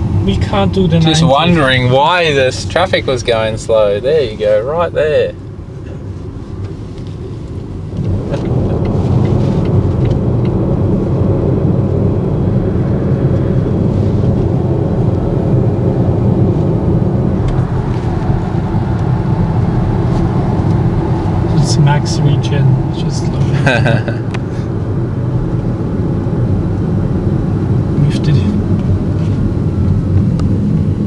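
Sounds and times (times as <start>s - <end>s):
tyre and road noise in car cabin: 0.0s - 31.0s.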